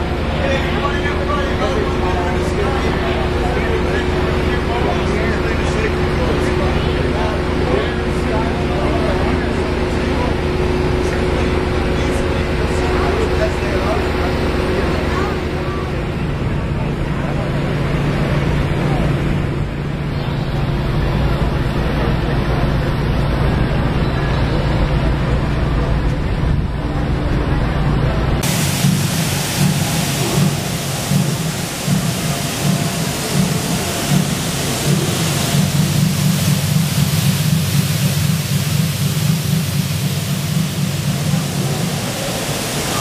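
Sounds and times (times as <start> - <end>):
crane engine humming: 0.0 - 43.0.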